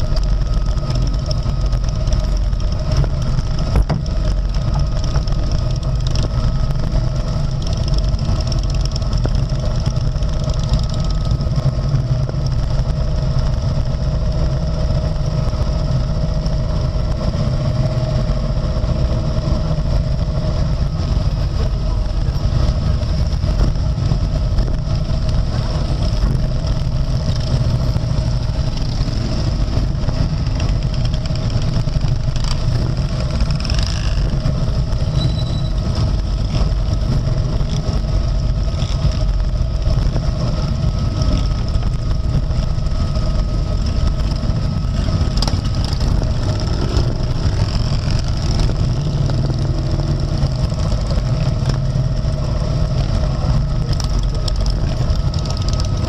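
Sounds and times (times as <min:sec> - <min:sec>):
motorcycle engines rumbling: 0:00.0 - 0:56.0.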